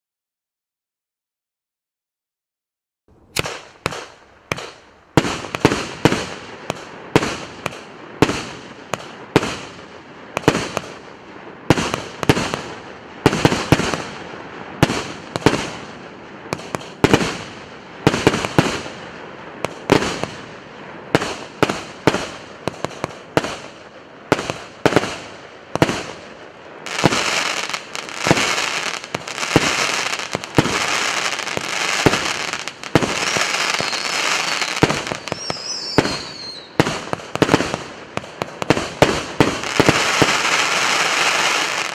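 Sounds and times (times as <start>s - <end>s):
fireworks crackling: 3.2s - 41.9s
fireworks shots firing: 3.3s - 41.9s.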